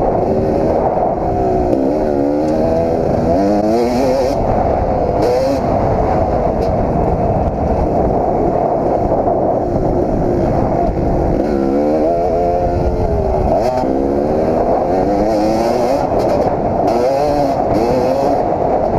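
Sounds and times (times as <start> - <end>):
motocross engine revving: 0.0 - 18.9
wind rush: 0.0 - 18.9.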